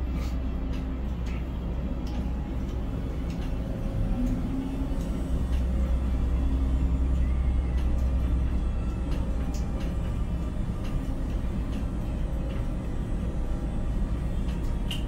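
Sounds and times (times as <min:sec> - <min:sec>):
crane machinery rumble: 0:00.0 - 0:15.0
faint motor whine: 0:00.0 - 0:15.0.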